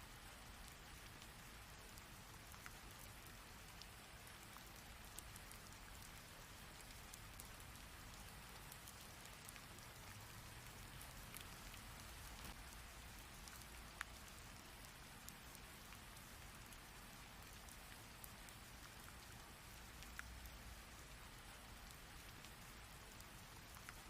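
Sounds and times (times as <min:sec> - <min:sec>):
rain hissing: 0:00.0 - 0:24.0
raindrops ticking nearby: 0:00.0 - 0:24.0.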